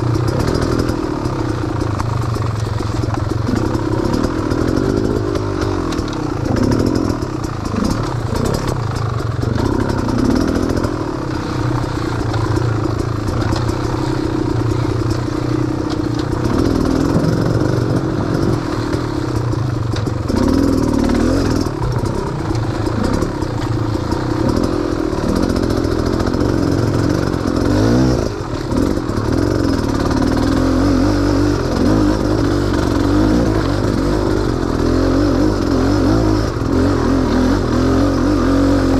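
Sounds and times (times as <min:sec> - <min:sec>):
vehicle engine revving: 0:00.0 - 0:38.9
vehicle rattling and clattering: 0:00.0 - 0:38.9.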